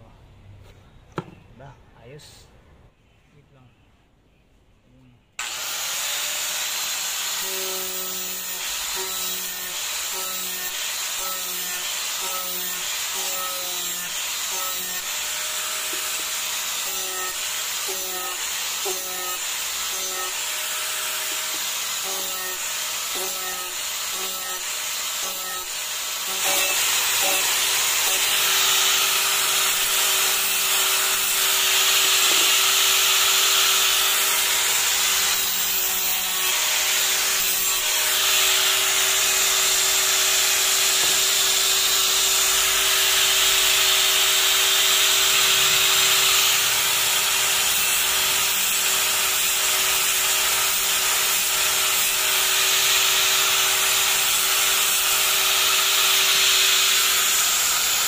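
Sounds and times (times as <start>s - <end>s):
angle grinder grinding plastic pipe: 5.4s - 58.0s.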